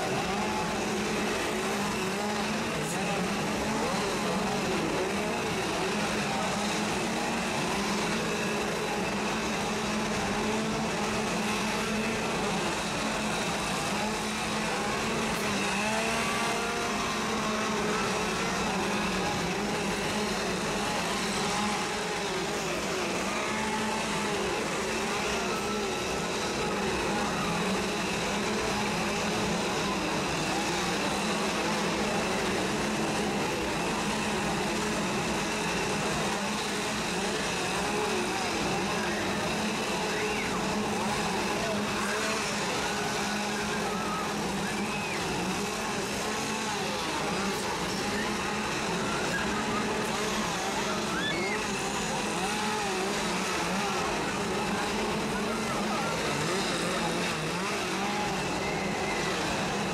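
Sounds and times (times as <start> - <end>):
chainsaw engines revving: 0.0 - 59.9
crowd voices: 0.0 - 59.9.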